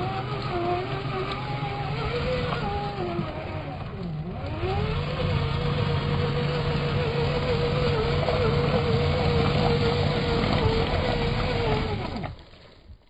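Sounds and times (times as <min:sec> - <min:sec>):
electric motor and gearbox whine: 0:00.0 - 0:12.4.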